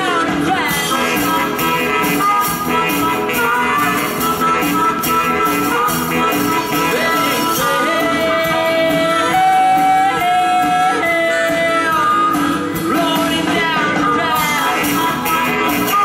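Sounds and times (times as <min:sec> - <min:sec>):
blues band playing rock and roll: 0:00.0 - 0:16.0.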